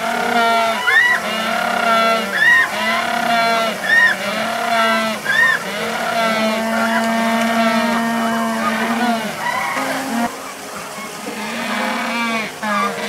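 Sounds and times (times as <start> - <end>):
penguins braying: 0.0 - 13.0.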